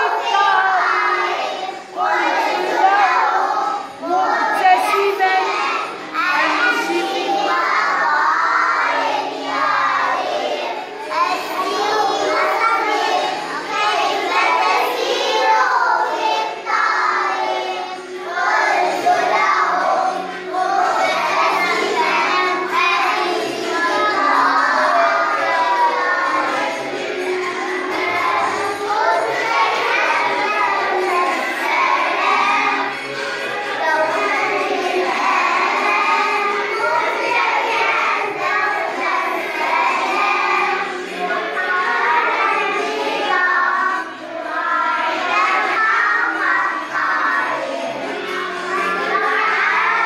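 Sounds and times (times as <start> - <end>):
children singing in unison: 0.0 - 50.0.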